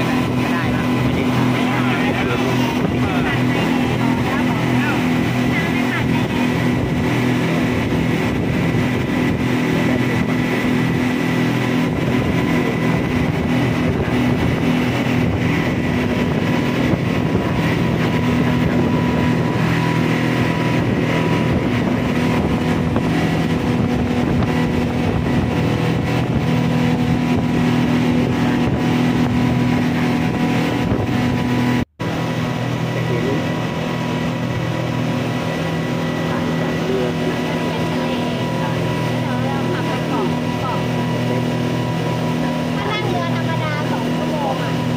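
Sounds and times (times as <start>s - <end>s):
speedboat engine running: 0.0s - 44.9s
wind and water rushing: 0.0s - 44.9s.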